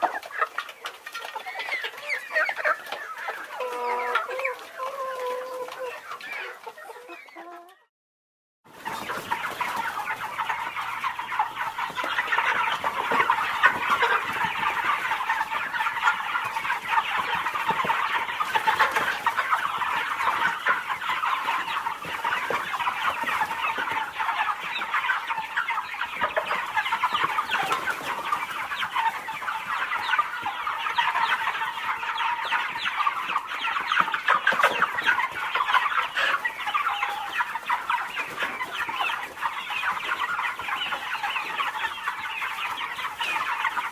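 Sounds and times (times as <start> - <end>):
flock of birds chattering: 0.0 - 7.6, 8.7 - 43.9.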